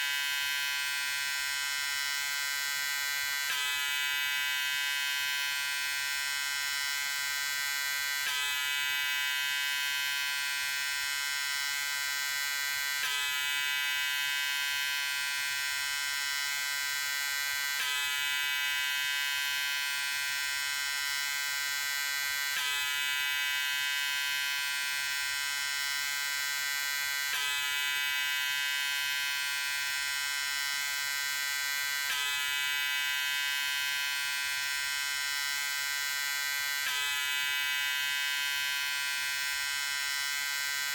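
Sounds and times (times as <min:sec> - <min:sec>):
electric shaver buzzing: 0:00.0 - 0:40.9.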